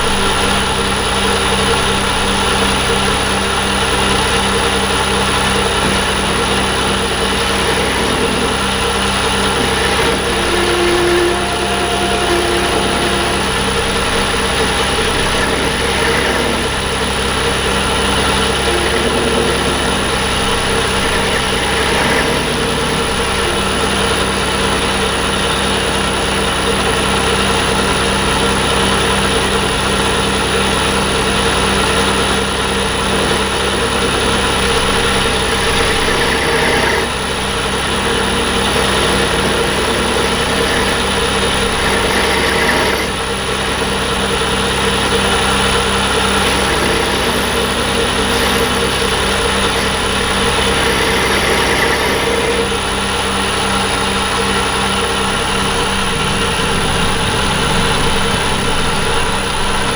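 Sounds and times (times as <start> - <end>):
metal lathe running: 0.0 - 59.9.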